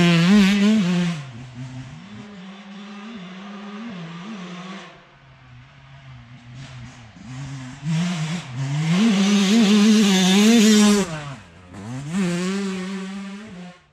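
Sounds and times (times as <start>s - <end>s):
dirt bike engine revving: 0.0s - 5.1s, 6.0s - 13.9s.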